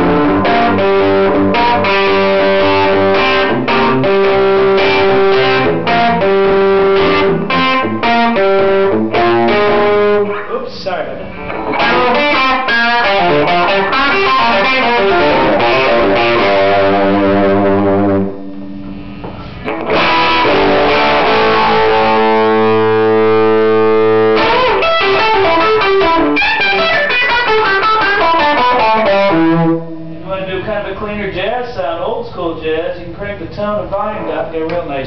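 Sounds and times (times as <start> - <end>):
electric guitar playing: 0.0 - 10.6, 11.2 - 30.3.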